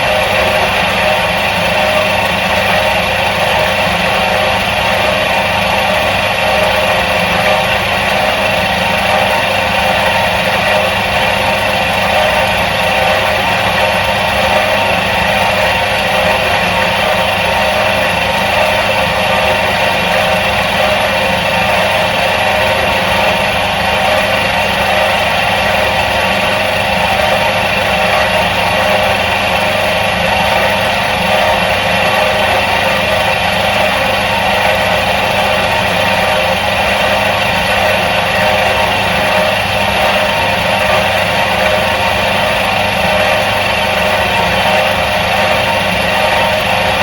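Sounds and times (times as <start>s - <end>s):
washing machine motor humming: 0.0s - 47.0s.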